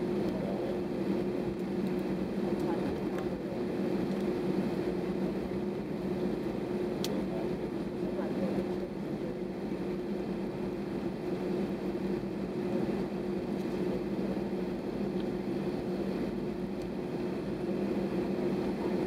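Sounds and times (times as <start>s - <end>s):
jet engines humming from cabin: 0.0s - 19.0s.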